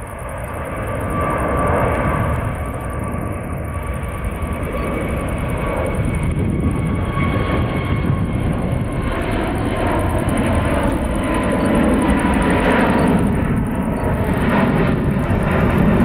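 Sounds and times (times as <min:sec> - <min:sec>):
faint high whine: 0:00.0 - 0:16.0
jet engine roar: 0:00.0 - 0:16.0.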